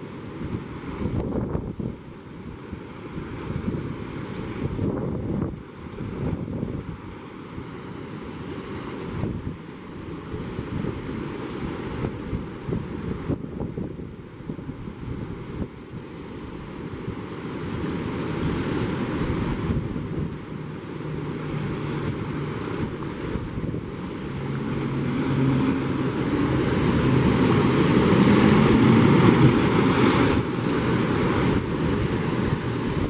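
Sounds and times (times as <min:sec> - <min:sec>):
wind buffeting microphone: 0:00.0 - 0:07.8, 0:09.0 - 0:33.0
surf washing over rocks: 0:00.0 - 0:33.0.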